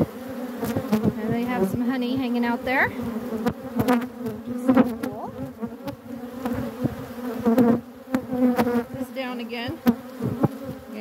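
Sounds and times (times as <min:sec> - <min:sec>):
bees buzzing: 0:00.0 - 0:11.0
bees zipping past: 0:00.0 - 0:11.0.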